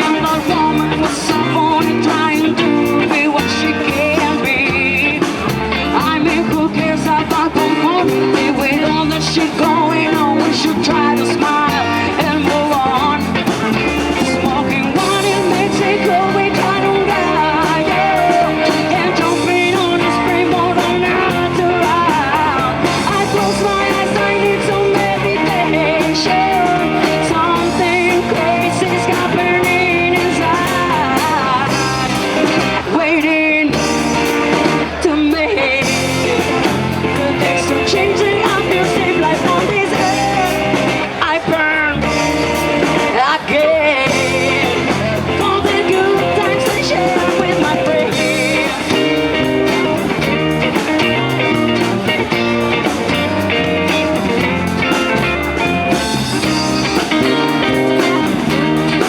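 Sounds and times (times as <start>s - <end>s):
live reggae band playing: 0.0s - 59.0s
wavering melodic lead line: 0.0s - 59.0s.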